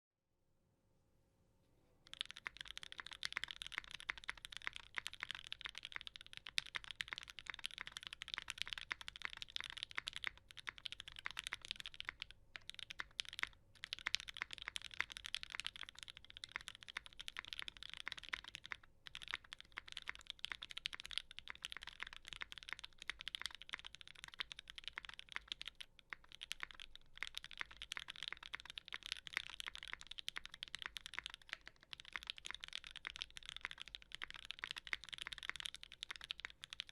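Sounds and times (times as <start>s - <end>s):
mechanical keyboard typing: 2.1s - 36.9s.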